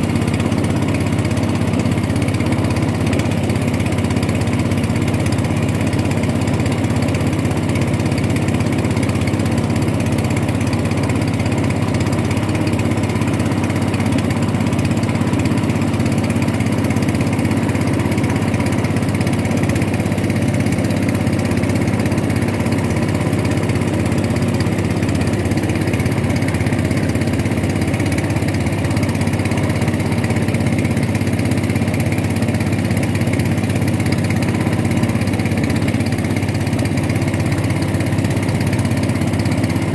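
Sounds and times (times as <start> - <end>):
boat motor droning: 0.0 - 39.9.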